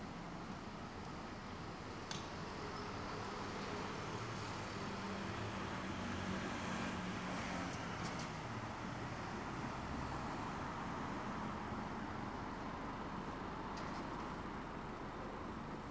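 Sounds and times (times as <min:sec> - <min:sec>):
vehicle engine and tyres: 0:00.1 - 0:15.9.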